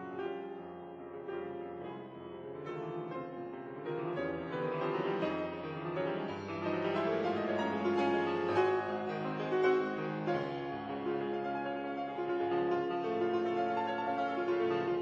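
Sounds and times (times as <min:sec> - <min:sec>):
piano-led instrumental music: 0:00.0 - 0:15.0.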